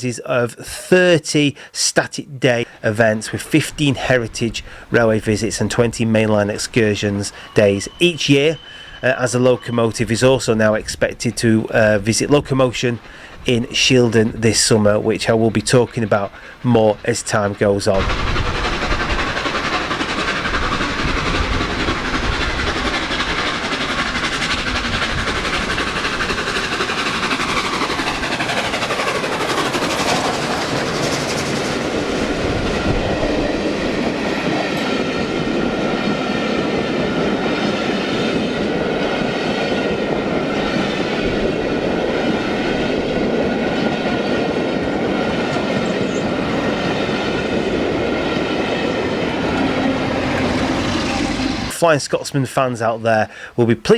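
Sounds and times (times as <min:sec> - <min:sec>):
train passing on rails: 0:00.6 - 0:53.9.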